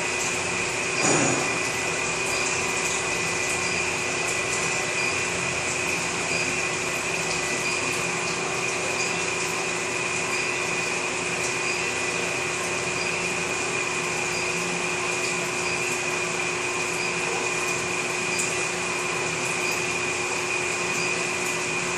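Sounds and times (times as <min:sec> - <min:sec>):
furnace fan whirring: 0:00.0 - 0:21.9.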